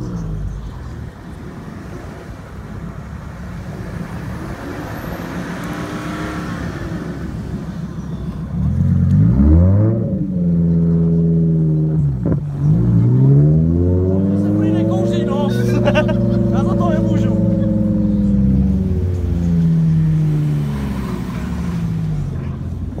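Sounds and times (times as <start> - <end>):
car engine revving: 3.5 - 23.0.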